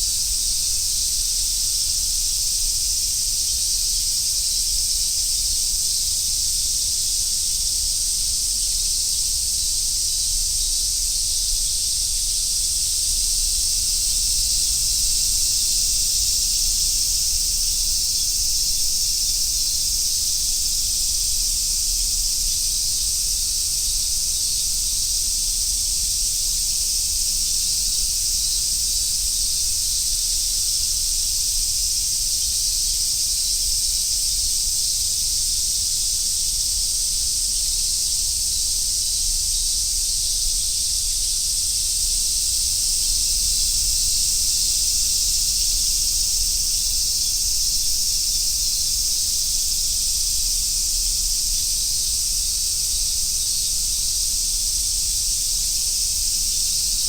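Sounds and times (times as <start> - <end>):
cicadas chorus: 0.0 - 57.0.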